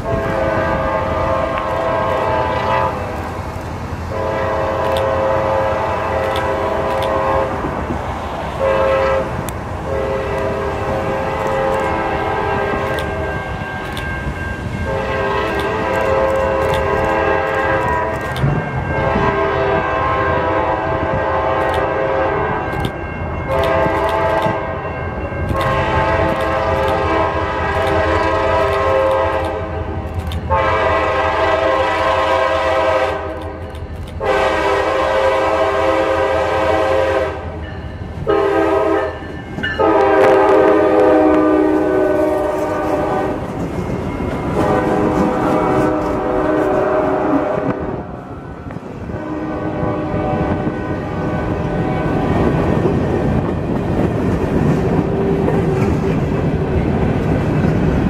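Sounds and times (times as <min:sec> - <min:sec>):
locomotive air horn blasts: 0:00.0 - 0:03.3, 0:04.1 - 0:07.8, 0:08.6 - 0:13.8, 0:14.8 - 0:33.6, 0:34.2 - 0:37.6, 0:38.2 - 0:43.6, 0:44.4 - 0:48.4, 0:49.1 - 0:52.3
diesel locomotive rumble: 0:00.0 - 0:58.0.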